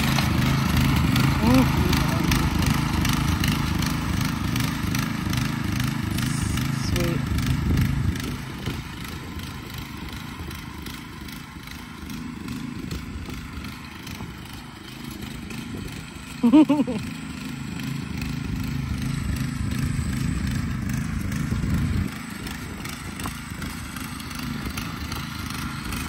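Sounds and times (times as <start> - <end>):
small tractor engine running: 0.0 - 26.0.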